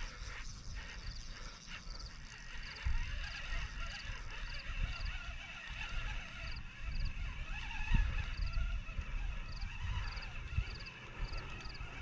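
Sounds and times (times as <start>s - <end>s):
steady outdoor hiss: 0.0s - 12.0s
wind buffeting microphone: 0.0s - 12.0s.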